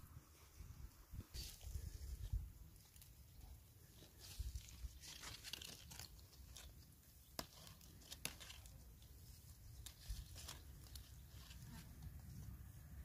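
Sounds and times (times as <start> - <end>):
leaves rustling and crackling: 1.2 - 13.0.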